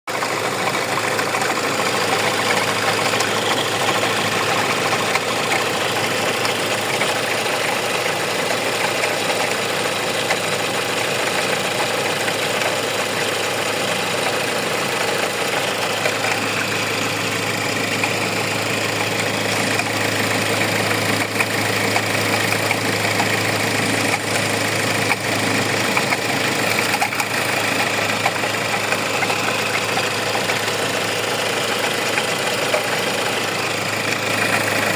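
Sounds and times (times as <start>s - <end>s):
car engine idling: 0.1s - 34.9s
alternator pulley noise: 0.2s - 12.8s, 13.8s - 34.9s.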